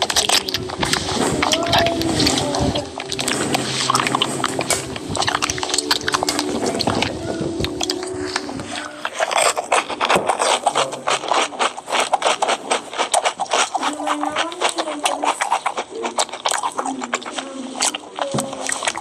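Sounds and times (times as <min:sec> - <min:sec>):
spoon scraping: 0:00.0 - 0:19.0
wet mouth clicks and smacks: 0:00.0 - 0:19.0.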